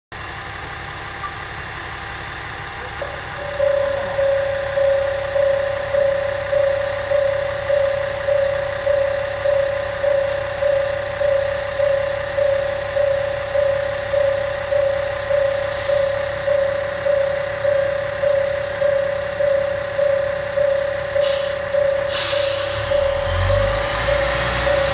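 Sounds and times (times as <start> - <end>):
diesel engine idling: 0.1 - 24.9
level-crossing electronic bell: 2.8 - 24.9.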